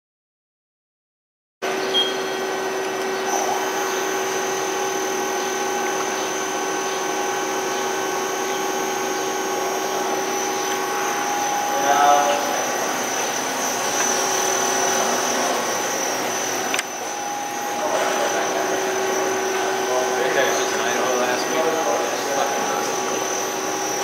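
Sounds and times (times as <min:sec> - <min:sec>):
machine hum and whine: 0:01.6 - 0:24.0.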